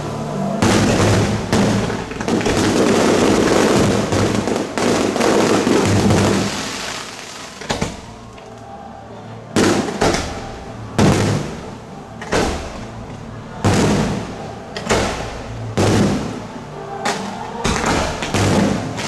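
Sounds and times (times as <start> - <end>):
fireworks bursting: 0.0 - 8.2, 9.6 - 13.0, 13.6 - 19.0.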